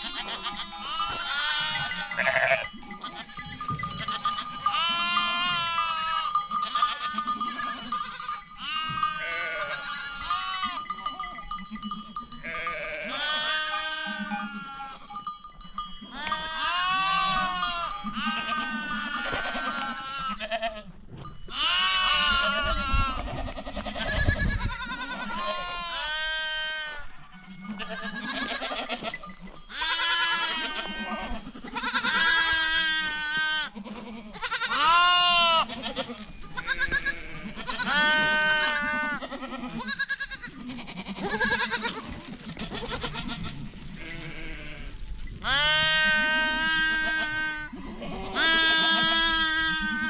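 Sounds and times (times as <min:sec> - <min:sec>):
goats and sheep bleating: 0:00.0 - 0:50.0.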